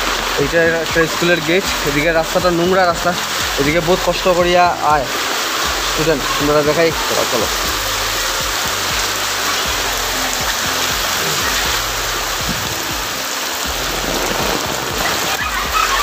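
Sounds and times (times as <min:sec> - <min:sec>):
rain on concrete: 0:00.0 - 0:16.0.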